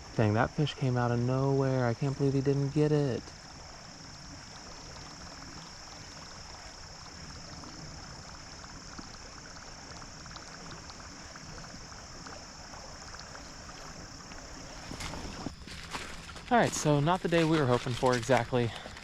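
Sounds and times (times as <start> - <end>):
insects buzzing: 0.0 - 19.0
river water flowing: 0.0 - 19.0.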